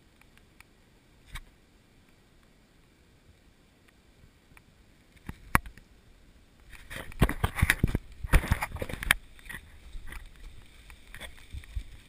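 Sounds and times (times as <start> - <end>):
light scattered ticks: 0.0 - 6.0, 6.6 - 12.0.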